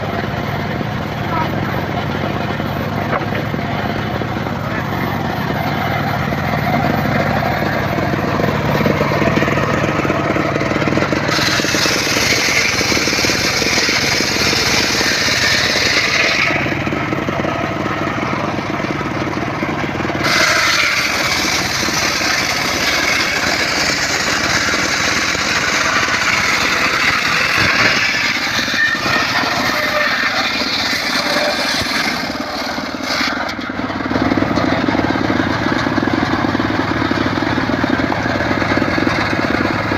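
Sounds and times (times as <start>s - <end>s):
circular saw running: 0.0s - 39.9s
saw blade cutting wood: 1.2s - 39.9s.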